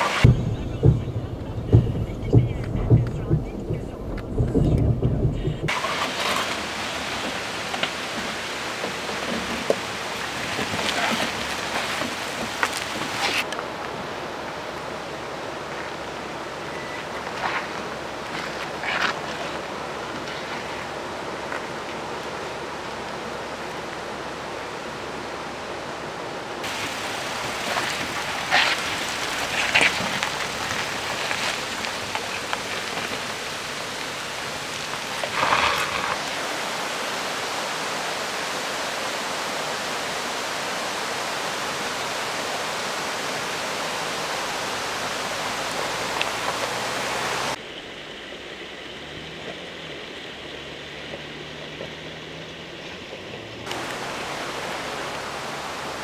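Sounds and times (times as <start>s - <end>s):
mountain stream rushing: 0.0s - 4.8s, 5.7s - 56.0s.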